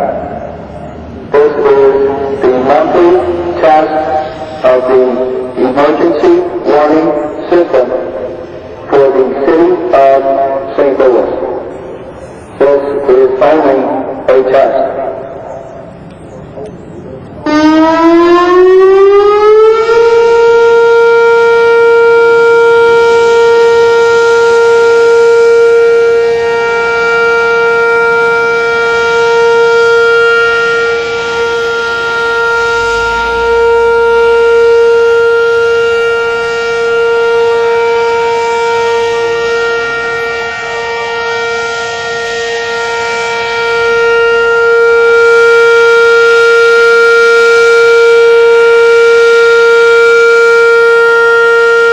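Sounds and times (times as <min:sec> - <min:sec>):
tornado warning siren: 0:00.0 - 0:51.9.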